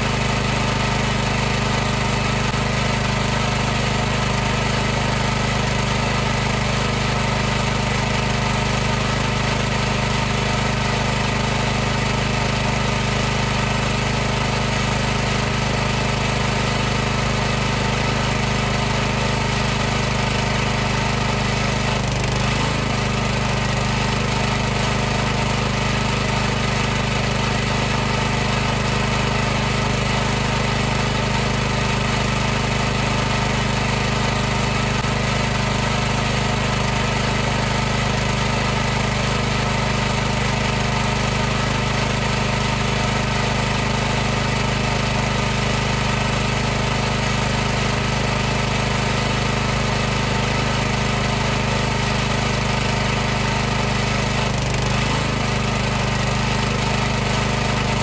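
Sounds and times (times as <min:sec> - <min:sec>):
pressure washer pump drone: 0:00.0 - 0:58.0.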